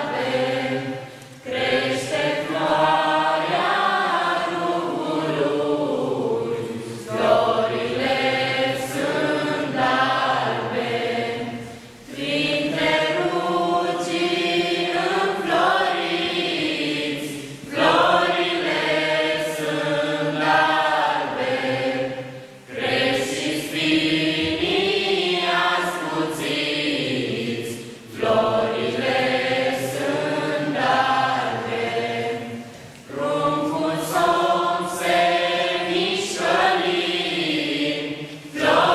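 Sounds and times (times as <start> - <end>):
young voices singing a carol: 0.0 - 38.9.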